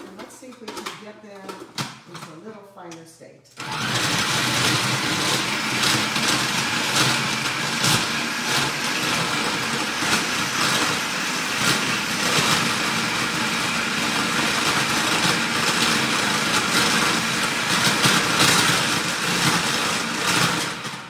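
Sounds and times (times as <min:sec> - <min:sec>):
food processor motor running: 0:03.6 - 0:21.0.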